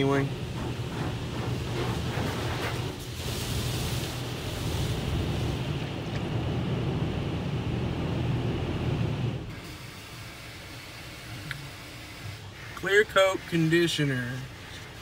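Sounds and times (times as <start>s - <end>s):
water jets spraying against van: 0.0s - 15.0s.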